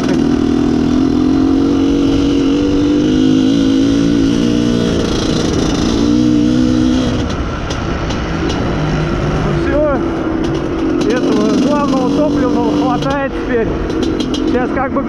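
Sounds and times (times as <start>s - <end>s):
two-stroke motorcycle engine running: 0.0s - 15.0s.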